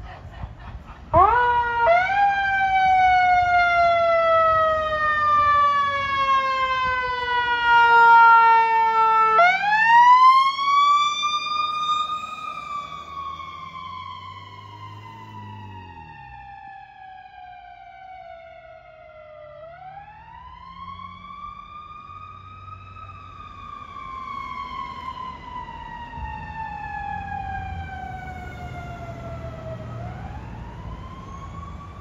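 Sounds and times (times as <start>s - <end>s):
vehicle and traffic rumble: 0.0s - 32.0s
ambulance siren wailing: 1.0s - 32.0s.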